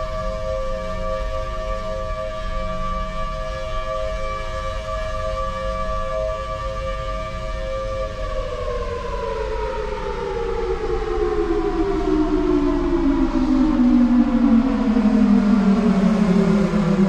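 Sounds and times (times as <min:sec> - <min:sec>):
civil defense siren winding down: 0:00.0 - 0:17.0.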